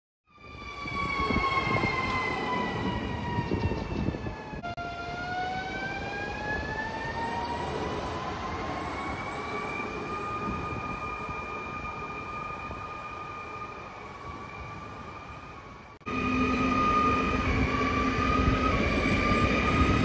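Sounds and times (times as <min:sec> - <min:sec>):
electric train traction whine: 0:00.4 - 0:20.0
low rumble of train: 0:00.4 - 0:20.0.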